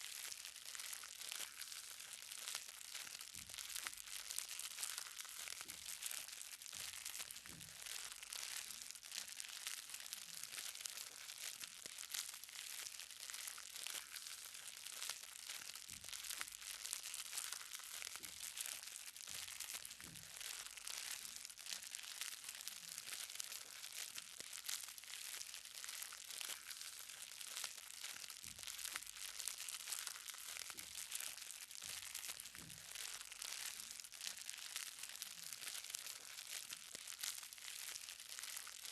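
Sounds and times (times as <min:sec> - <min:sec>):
raindrops pattering on ground: 0:00.0 - 0:38.9.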